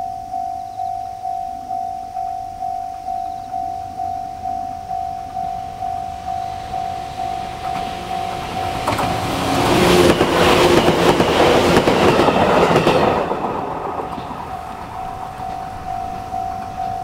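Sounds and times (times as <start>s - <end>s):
level crossing warning bell: 0.0s - 17.0s
train passing with wheel noise: 2.5s - 17.0s.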